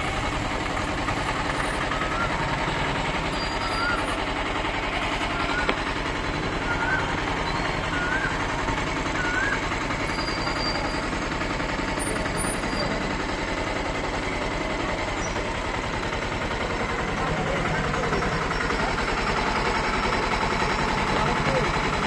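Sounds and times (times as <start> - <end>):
small engine idling: 0.0 - 22.0.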